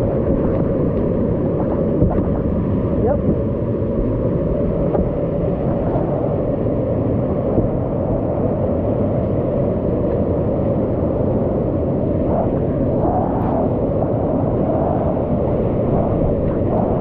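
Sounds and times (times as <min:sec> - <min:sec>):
roar of churning water: 0:00.0 - 0:17.0.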